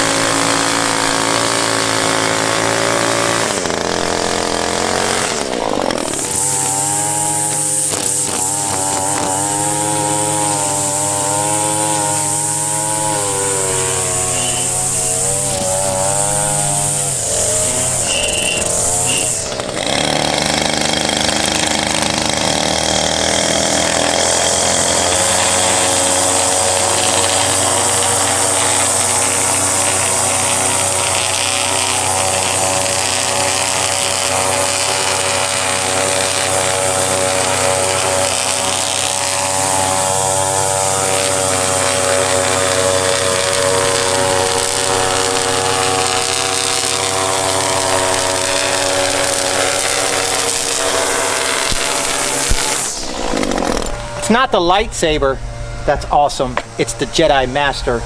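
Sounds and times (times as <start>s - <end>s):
small petrol engine running: 0.0s - 58.0s.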